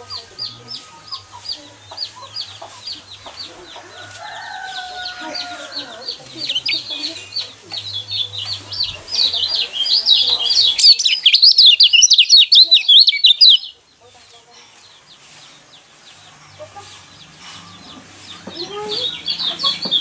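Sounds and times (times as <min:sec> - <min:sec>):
bird twittering song: 0:00.0 - 0:20.0.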